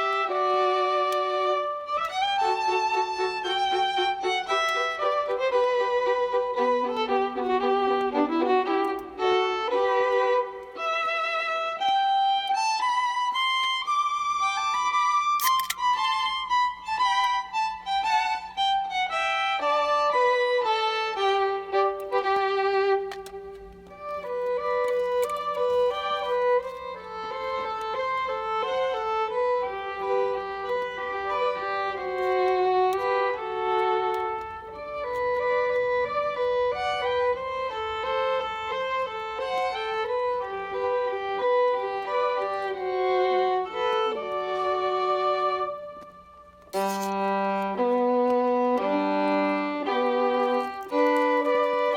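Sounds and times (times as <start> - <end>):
musical accompaniment: 0.0 - 51.9
solo violin slow melody: 0.0 - 51.9.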